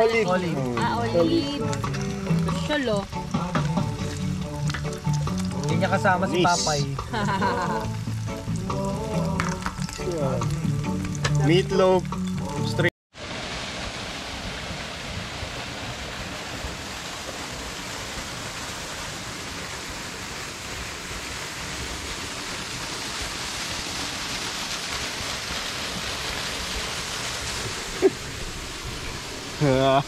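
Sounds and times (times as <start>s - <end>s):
waterfall splashing into pool: 0.0s - 30.0s.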